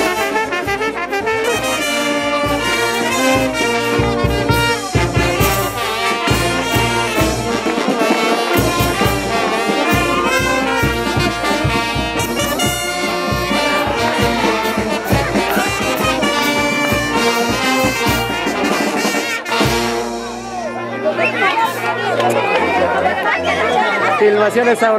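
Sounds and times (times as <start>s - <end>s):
brass band playing: 0.0s - 24.6s.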